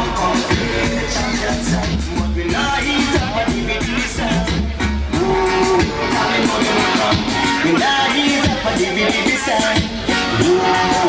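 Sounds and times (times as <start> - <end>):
reggae dancehall music: 0.0 - 11.0.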